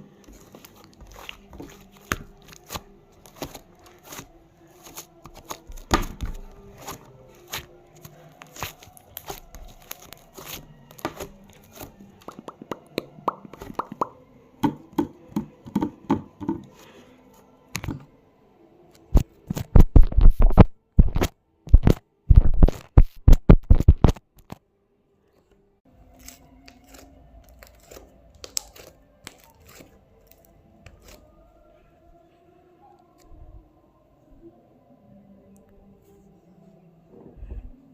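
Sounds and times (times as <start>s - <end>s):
faint background music: 0.0s - 23.1s, 23.7s - 37.9s.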